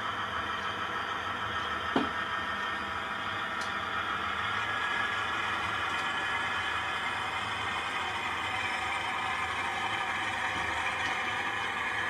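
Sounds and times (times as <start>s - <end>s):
model railway humming: 0.0s - 12.0s.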